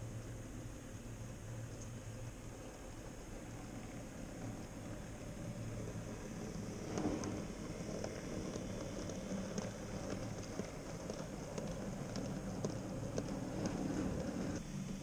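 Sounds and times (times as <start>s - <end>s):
model train rolling rumble: 0.0s - 15.0s
wheels clicking over rail joints: 0.0s - 15.0s.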